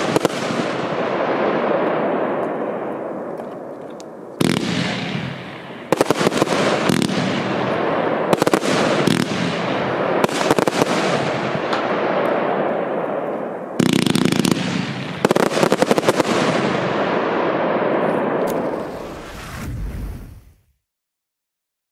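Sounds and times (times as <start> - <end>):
fireworks firing and crackling: 0.0 - 20.6.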